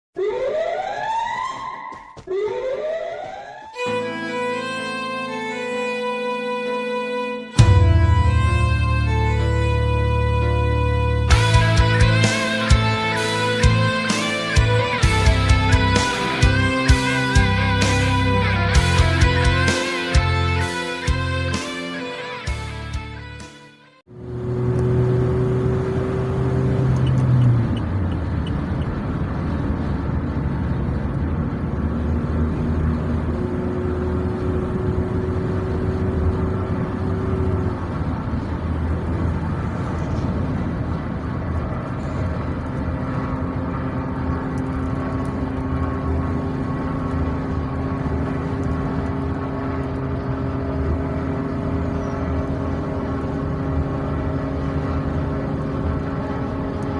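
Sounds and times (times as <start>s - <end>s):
bus engine droning: 2.0s - 56.9s.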